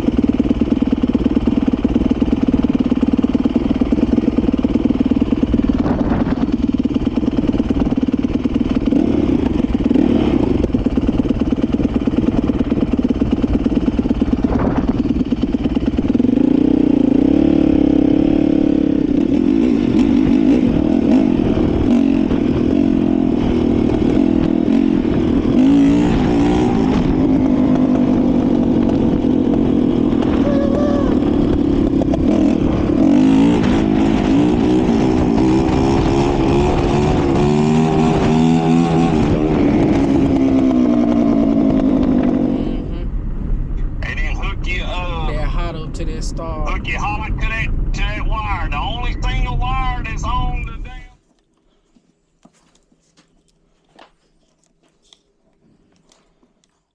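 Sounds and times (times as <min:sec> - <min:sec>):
dirt bike engine running: 0:00.0 - 0:51.1.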